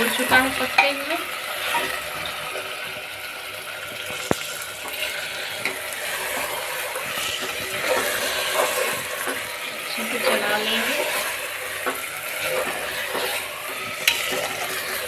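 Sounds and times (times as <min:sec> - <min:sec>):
curry sizzling in oil: 0:00.0 - 0:15.0
metal spatula scraping pot: 0:00.8 - 0:02.5, 0:04.2 - 0:15.0.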